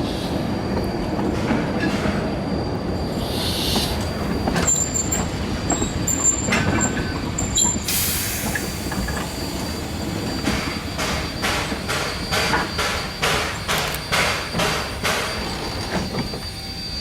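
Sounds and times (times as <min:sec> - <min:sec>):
steam train rumbling: 0:00.0 - 0:17.0
thin high squeal: 0:02.1 - 0:17.0
steam hissing: 0:02.3 - 0:17.0.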